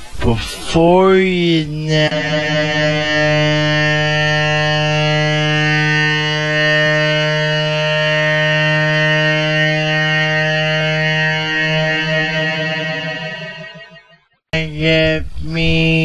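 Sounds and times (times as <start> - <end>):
loud steady droning note: 1.6 - 14.8.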